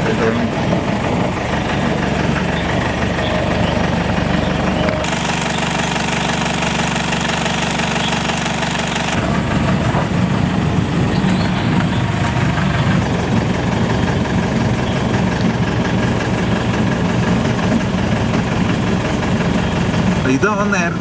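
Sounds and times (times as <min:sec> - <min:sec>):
car engine idling roughly: 0:00.0 - 0:21.0.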